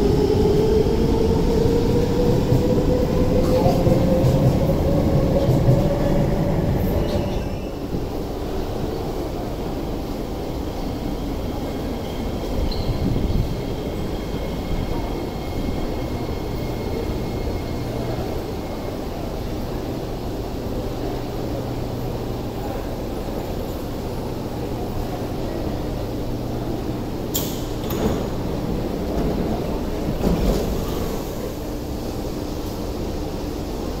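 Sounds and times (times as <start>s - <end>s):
faint high train whine: 0.0s - 34.0s
train low hum: 0.0s - 34.0s.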